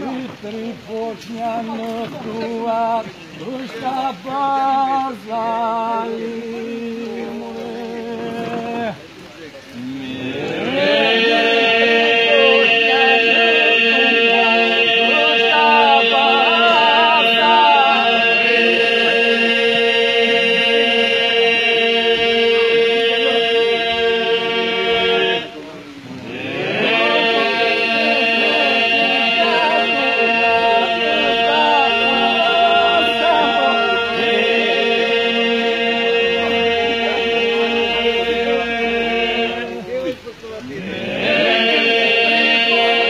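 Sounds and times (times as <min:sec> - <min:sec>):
men singing drone: 0:00.0 - 0:09.0, 0:09.8 - 0:39.9, 0:40.8 - 0:43.0
solo male voices singing: 0:00.0 - 0:09.1, 0:09.7 - 0:43.0.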